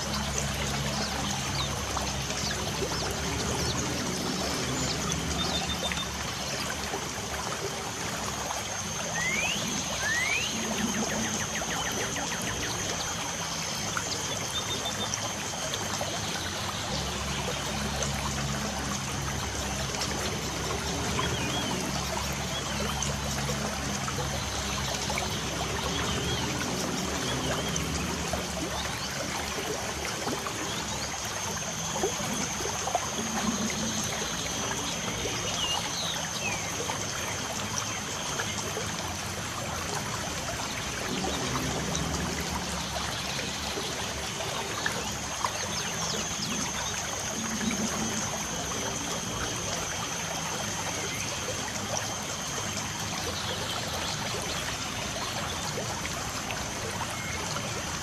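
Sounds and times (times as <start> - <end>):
trickle of running water: 0.0 - 58.0.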